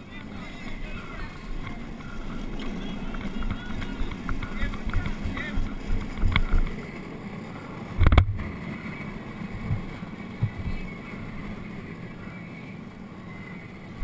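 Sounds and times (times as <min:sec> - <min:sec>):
wheels rumbling on asphalt: 0:00.0 - 0:14.0.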